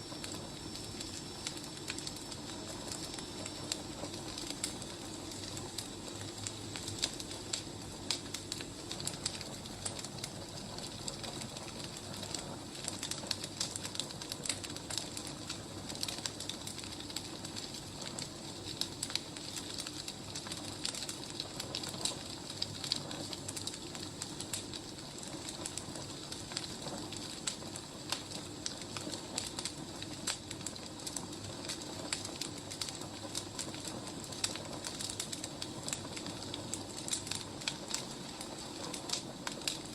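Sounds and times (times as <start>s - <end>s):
firewood crackling: 0.1s - 39.9s.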